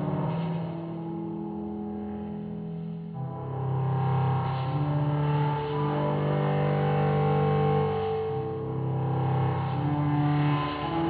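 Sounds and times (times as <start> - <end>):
sustained low background music: 0.0 - 11.0.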